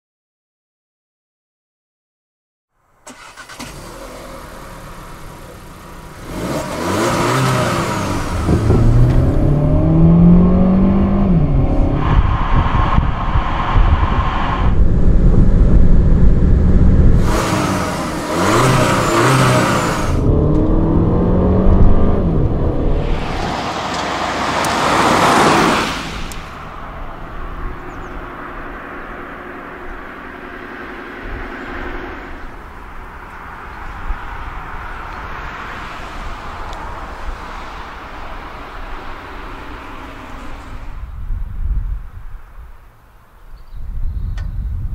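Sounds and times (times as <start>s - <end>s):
car engine accelerating hard: 3.1s - 41.0s.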